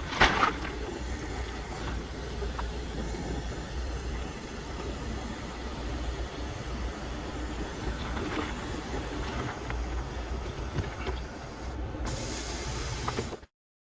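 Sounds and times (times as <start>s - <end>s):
torch flame hissing: 0.5s - 13.2s.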